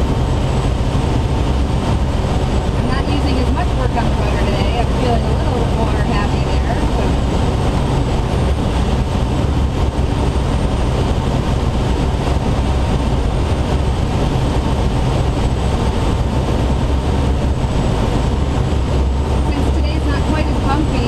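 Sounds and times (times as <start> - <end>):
air rushing in glider cockpit: 0.0 - 21.0.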